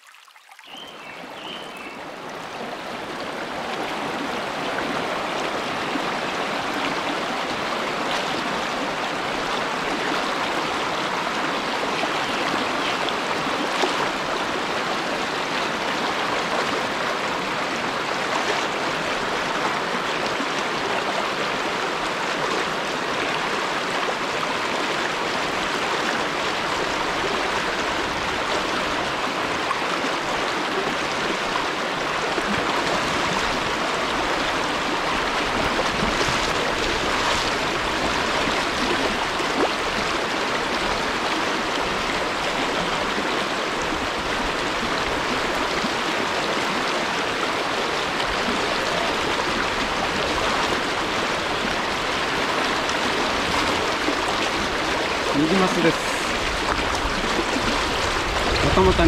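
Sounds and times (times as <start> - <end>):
river rushing over rocks: 1.0 - 59.0.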